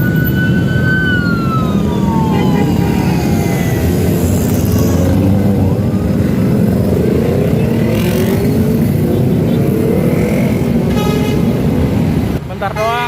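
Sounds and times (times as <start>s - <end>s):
vehicle engines droning: 0.0s - 13.0s.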